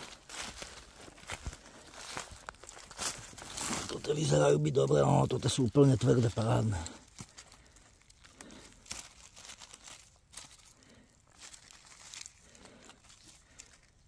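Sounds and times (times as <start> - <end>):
leaf litter rustling: 0.0 - 14.0
twigs snapping: 0.3 - 4.0, 6.1 - 14.0.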